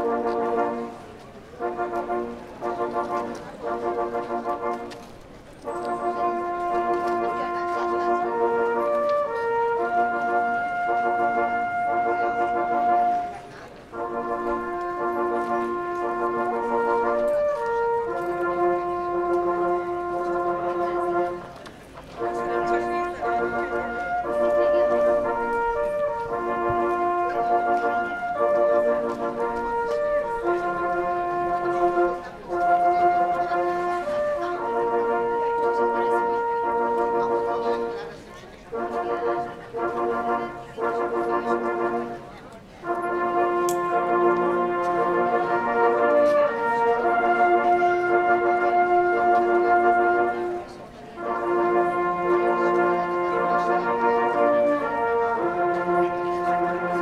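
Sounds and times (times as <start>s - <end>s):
brass ensemble playing chords: 0.0s - 57.0s.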